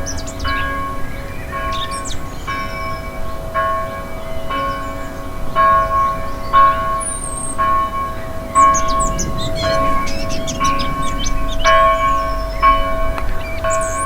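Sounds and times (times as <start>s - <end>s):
church bell tolling: 0.0s - 14.0s
small birds chirping: 0.0s - 14.0s.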